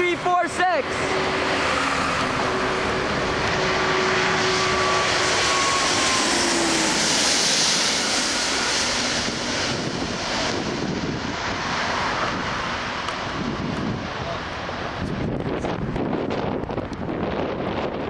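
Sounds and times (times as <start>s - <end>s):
engine whine: 0.0s - 18.0s
jet plane passing: 0.0s - 18.0s.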